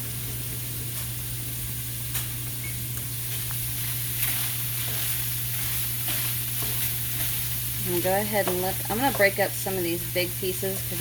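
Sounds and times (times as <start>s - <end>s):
meat sizzling in a skillet: 0.1s - 11.0s.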